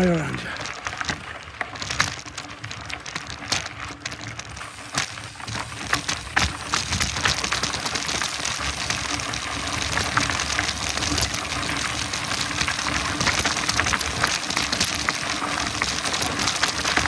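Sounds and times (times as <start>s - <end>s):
bike rattling and clicking: 0.6s - 17.0s
bike tyres on dirt and stones: 0.6s - 17.0s.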